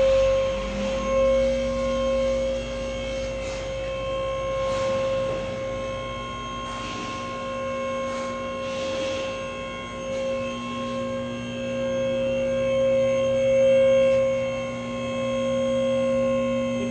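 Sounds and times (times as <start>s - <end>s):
machine hum with whining tone: 0.0s - 16.9s.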